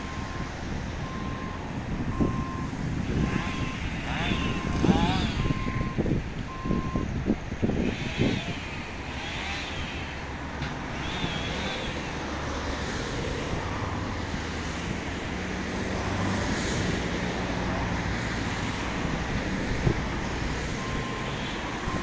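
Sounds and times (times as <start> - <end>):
diesel engine rumble: 0.0 - 22.0
traffic-like noise: 0.0 - 22.0.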